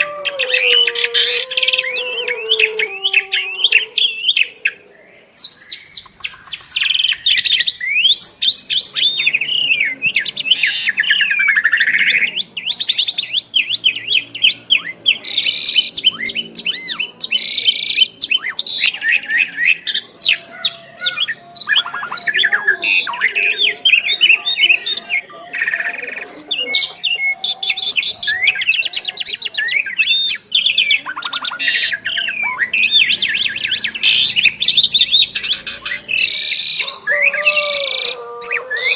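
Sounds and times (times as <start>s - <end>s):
birds singing whistles and trills: 0.0s - 38.9s.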